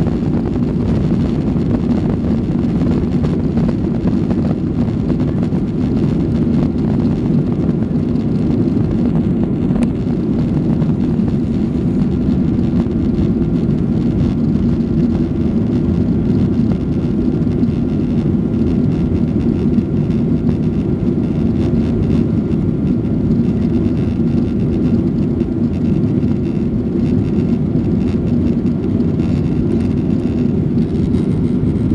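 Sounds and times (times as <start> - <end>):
jet engines roaring in cabin: 0.0 - 31.9.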